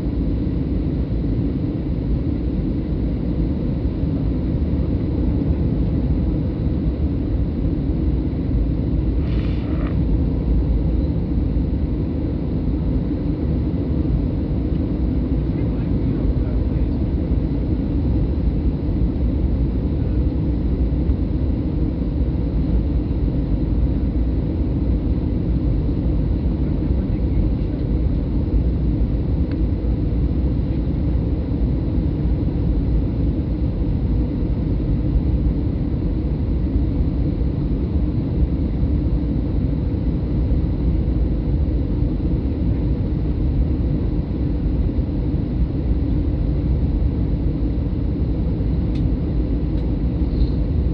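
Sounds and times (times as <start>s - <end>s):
airplane cabin engine rumble: 0.0s - 50.9s.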